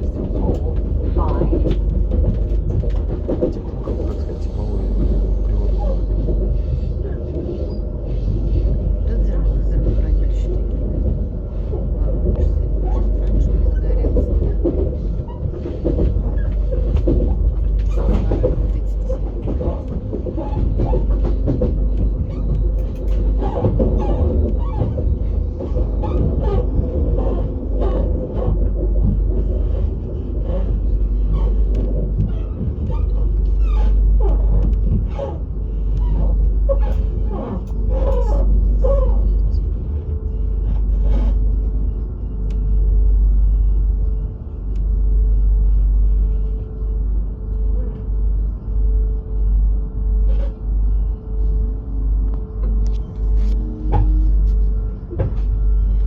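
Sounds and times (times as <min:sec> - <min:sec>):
steady hum: 0:00.0 - 0:56.0
train carriage rumble: 0:00.0 - 0:56.0.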